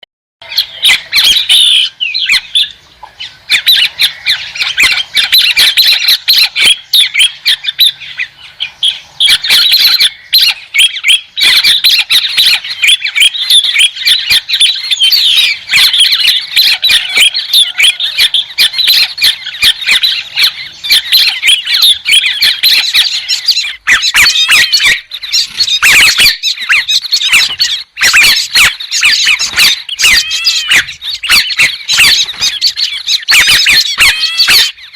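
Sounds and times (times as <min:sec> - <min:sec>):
bird chattering: 0:00.4 - 0:34.9.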